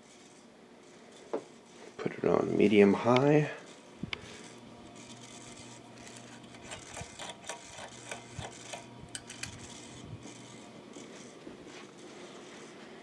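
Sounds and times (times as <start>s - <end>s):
ceiling fan motor hum: 0.1s - 13.0s.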